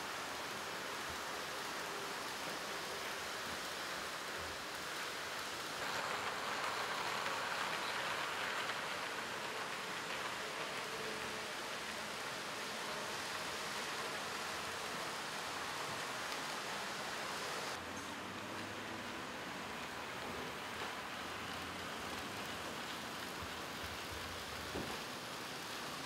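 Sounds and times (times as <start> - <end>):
model train wheels rushing: 0.0 - 17.8, 18.6 - 26.0.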